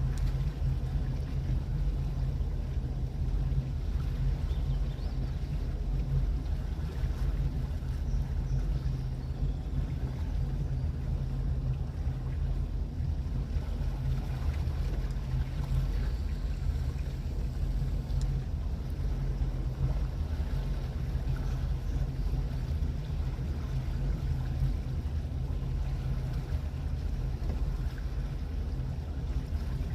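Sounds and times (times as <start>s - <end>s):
boat engine droning: 0.0s - 29.9s.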